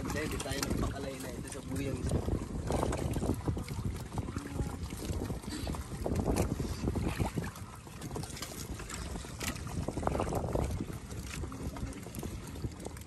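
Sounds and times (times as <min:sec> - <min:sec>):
water lapping against boat: 0:00.0 - 0:13.0
wind on microphone: 0:00.0 - 0:13.0.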